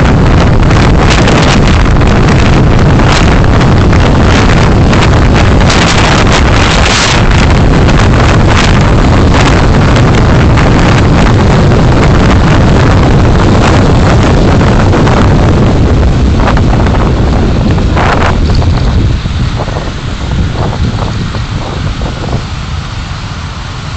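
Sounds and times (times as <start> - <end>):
car road and wind noise: 0.0 - 23.9
wind buffeting microphone: 0.0 - 23.9.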